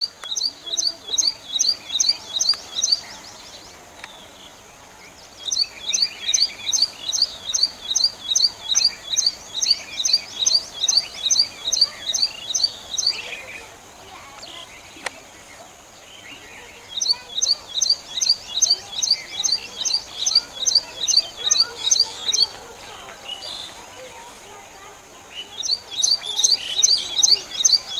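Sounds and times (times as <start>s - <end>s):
faint bird chirps: 0.0s - 27.9s.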